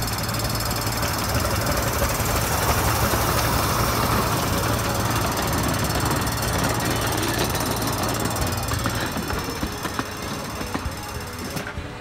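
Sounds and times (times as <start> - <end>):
miniature steam train clattering: 0.0 - 12.0.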